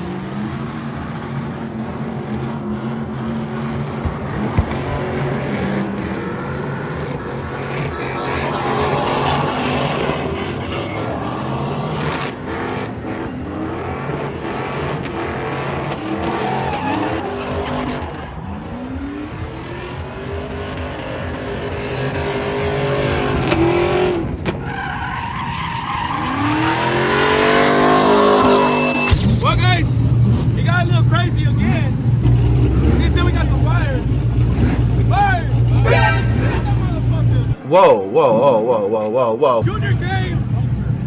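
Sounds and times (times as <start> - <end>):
tyres skidding: 0.0 - 37.7, 38.7 - 41.0
engines revving: 0.0 - 41.0.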